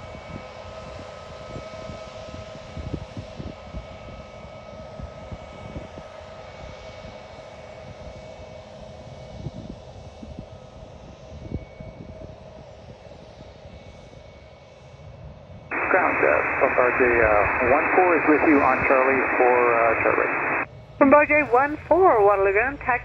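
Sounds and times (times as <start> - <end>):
aircraft engine whine: 0.0 - 23.0.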